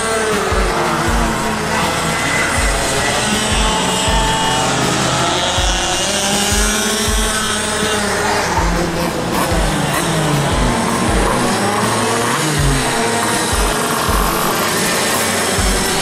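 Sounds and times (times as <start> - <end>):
go-kart engine running: 0.0 - 16.0
music with kick-drum beat: 0.0 - 16.0.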